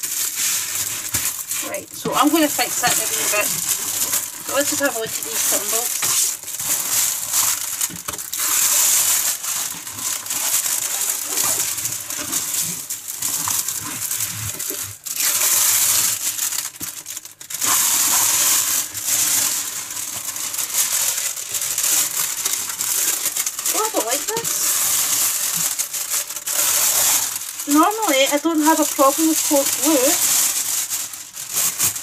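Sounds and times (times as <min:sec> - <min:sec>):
plastic film crinkling: 0:00.0 - 0:32.0.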